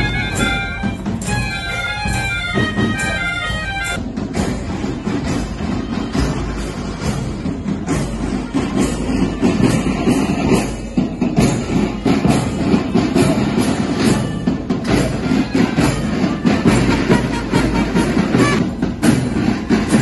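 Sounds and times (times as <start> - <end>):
marching band playing: 0.0 - 20.0
steady drumbeat: 0.0 - 20.0.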